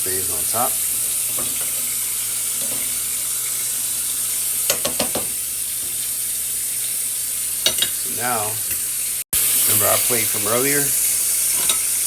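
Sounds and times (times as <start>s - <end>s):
sizzling pot on stove: 0.0s - 12.0s.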